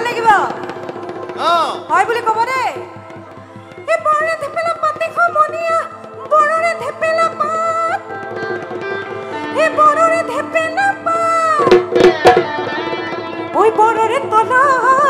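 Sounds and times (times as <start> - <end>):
hand drum beats: 0.0 - 15.0.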